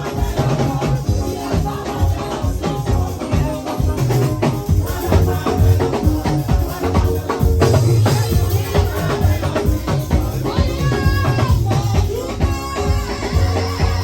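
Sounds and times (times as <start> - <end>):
music with drum beat and bass: 0.0 - 14.0.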